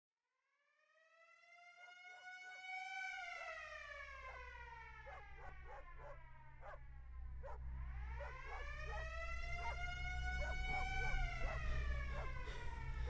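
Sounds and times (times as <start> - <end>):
wailing alarm siren: 0.8 - 13.0.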